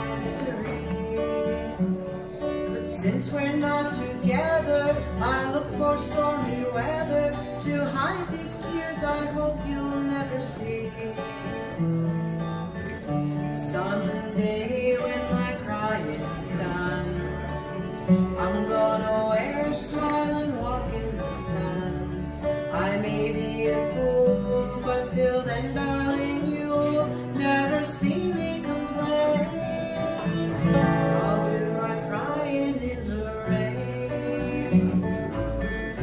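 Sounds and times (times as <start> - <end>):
woman singing: 0.0 - 1.8, 2.7 - 11.4, 13.6 - 17.4, 18.4 - 35.3
acoustic guitar: 0.0 - 36.0.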